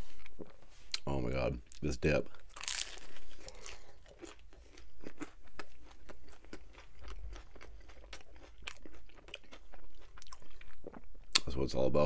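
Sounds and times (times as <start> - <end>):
person chewing: 0.0 - 1.1, 2.3 - 11.5.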